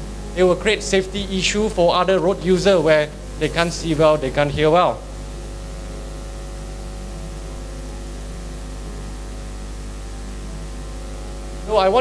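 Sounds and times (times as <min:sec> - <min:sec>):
constant hiss: 0:00.0 - 0:12.0
electrical mains hum: 0:00.0 - 0:12.0.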